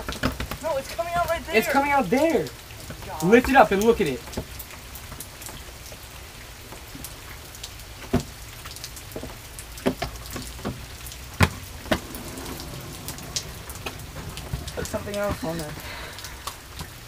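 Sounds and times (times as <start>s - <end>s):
sharp drips close by: 0.0s - 17.0s
steady rain: 0.0s - 17.0s.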